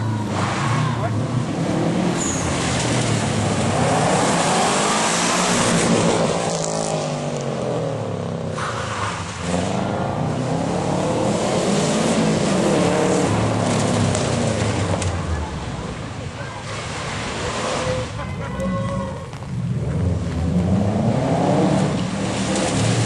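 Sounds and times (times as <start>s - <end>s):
rally car engines revving: 0.0s - 23.0s.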